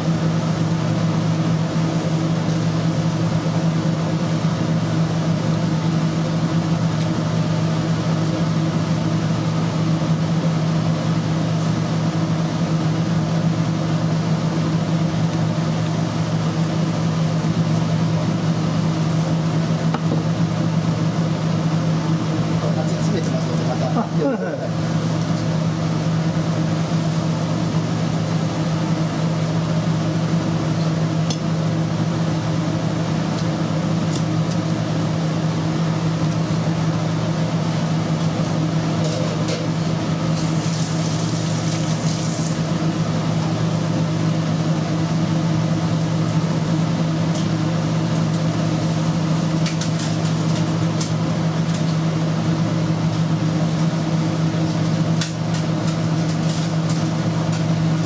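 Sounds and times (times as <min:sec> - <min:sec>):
electric hum of kitchen equipment: 0:00.0 - 0:58.0.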